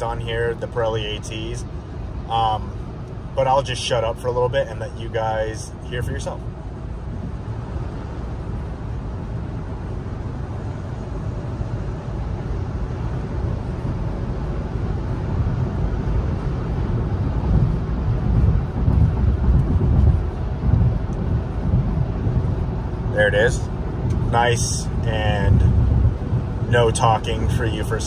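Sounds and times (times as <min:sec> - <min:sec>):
tire and road noise: 0:00.0 - 0:28.0.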